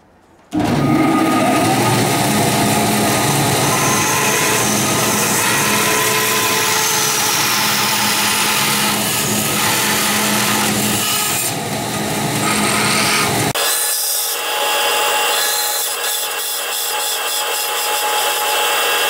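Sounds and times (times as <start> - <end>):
bandsaw motor hum: 0.6 - 19.0
saw blade cutting metal tube: 0.8 - 19.0.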